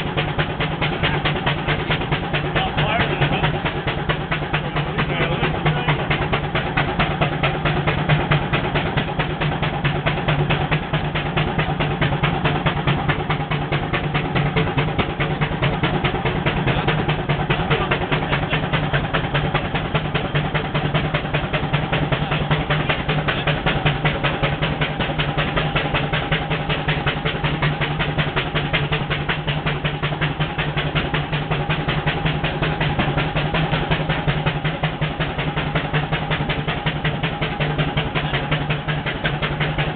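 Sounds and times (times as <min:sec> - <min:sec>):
steam traction engine working: 0:00.0 - 0:39.9.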